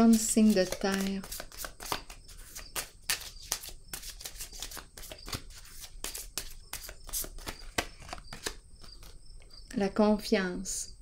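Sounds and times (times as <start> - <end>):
cards being shuffled: 0.0 - 9.2.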